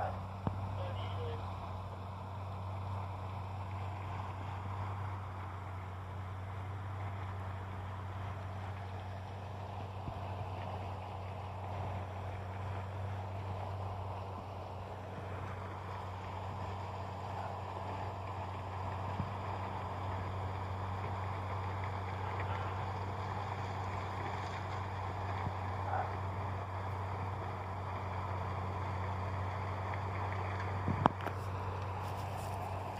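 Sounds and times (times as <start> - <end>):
engine humming: 0.0 - 32.9.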